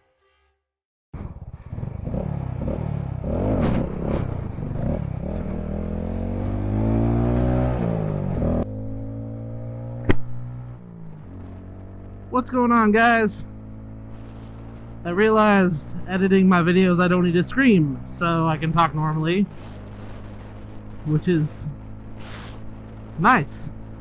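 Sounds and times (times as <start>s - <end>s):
motorcycle engine revving: 1.2s - 24.0s.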